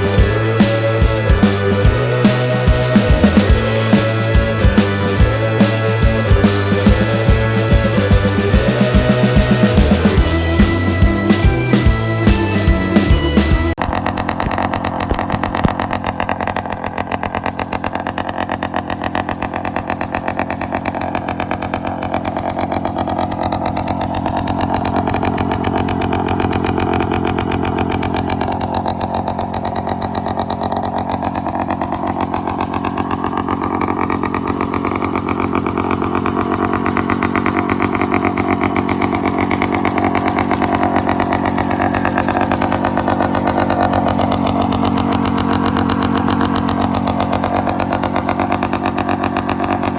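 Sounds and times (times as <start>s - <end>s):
two-stroke engine running: 0.0s - 49.9s.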